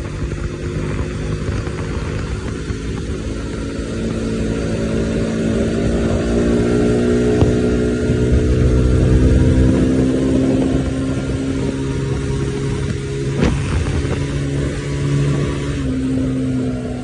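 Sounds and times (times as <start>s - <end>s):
motorcycle engine at speed: 0.0s - 17.0s.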